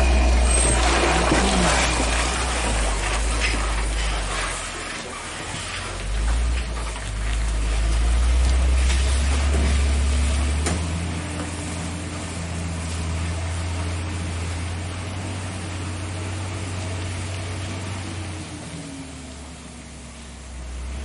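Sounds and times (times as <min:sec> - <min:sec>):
truck diesel engine climbing: 0:00.0 - 0:21.0.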